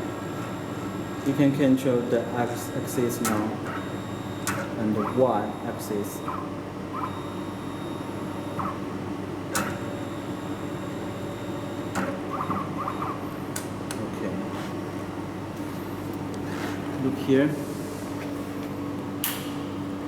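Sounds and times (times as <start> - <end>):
welding machine electrical hum: 0.0 - 20.0.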